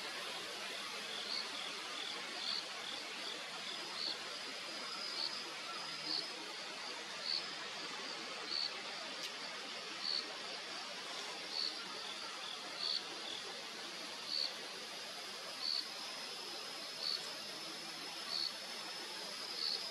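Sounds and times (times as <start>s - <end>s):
faint high whine: 0.0s - 19.9s
outdoor hiss: 0.0s - 19.9s.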